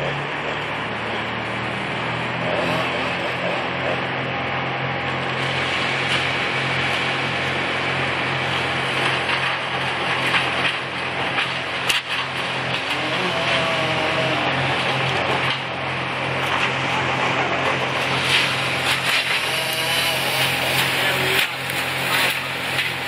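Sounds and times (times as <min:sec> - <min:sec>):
chainsaw idling: 0:00.0 - 0:23.0.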